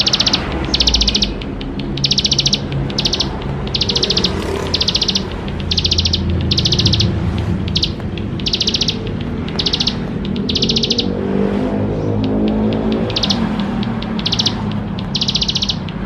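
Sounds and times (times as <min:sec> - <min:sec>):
bird buzzy trills: 0:00.0 - 0:16.0.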